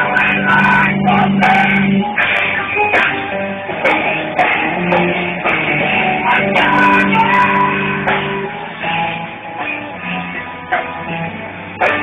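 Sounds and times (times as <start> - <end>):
live rock band with guitars: 0.0 - 12.0.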